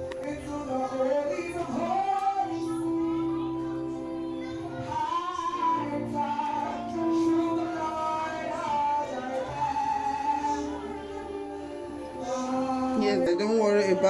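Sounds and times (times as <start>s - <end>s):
high voice singing sustained notes: 0.4s - 14.0s.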